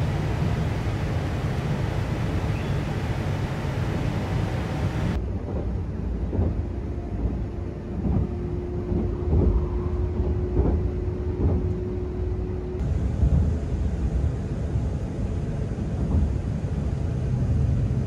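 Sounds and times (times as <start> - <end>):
train running gear rumble: 0.0 - 18.0.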